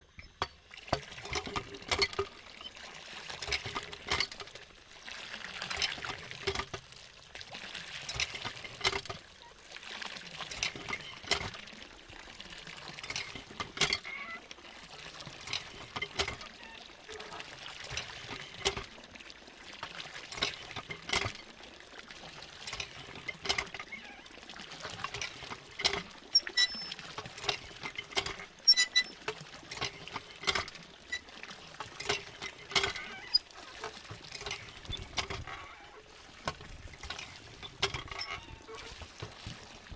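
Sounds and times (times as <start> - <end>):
pump handle clanking: 0.0 - 4.8, 5.5 - 7.0, 7.8 - 9.3, 10.4 - 11.7, 12.6 - 19.0, 19.8 - 39.9
water gushing: 0.6 - 39.9.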